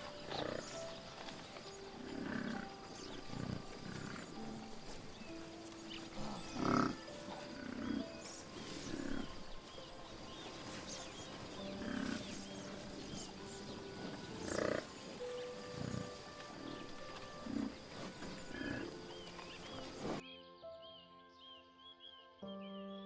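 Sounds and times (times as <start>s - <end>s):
low animal calls: 0.0s - 20.2s
soft background music: 0.0s - 23.0s.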